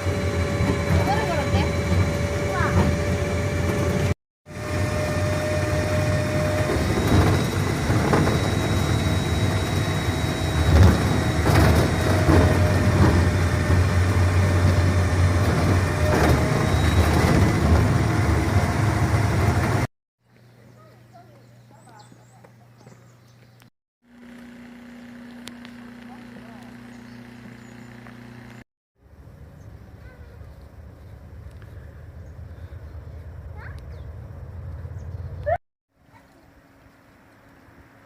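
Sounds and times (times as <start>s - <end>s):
vehicle running noise: 0.0s - 19.9s, 24.1s - 35.6s.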